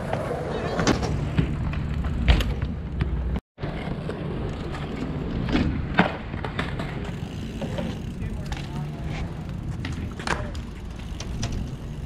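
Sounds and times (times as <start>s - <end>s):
bike tyres rolling on concrete: 0.0s - 12.0s.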